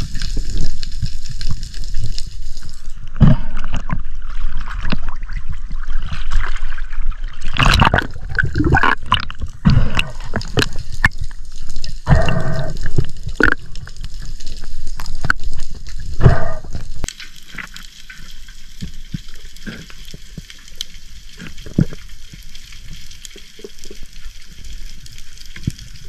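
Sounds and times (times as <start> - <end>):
sea water gurgling and sloshing: 0.0 - 26.0.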